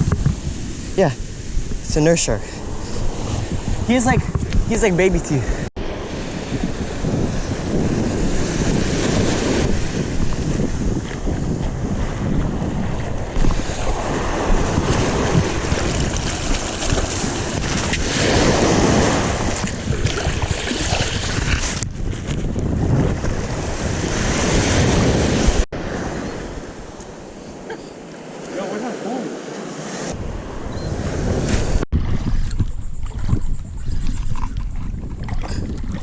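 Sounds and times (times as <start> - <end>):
waves washing: 0.0 - 22.4, 23.1 - 36.0
wind buffeting microphone: 0.0 - 27.7, 30.1 - 36.0.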